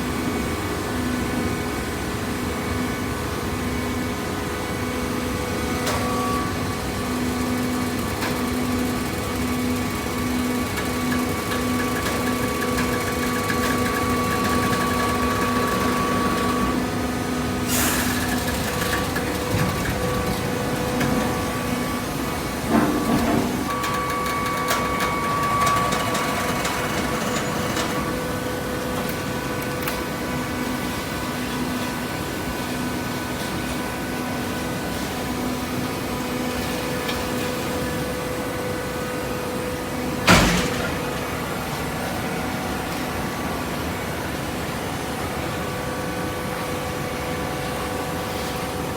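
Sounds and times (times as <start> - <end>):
baler mechanical hum: 0.0 - 48.9.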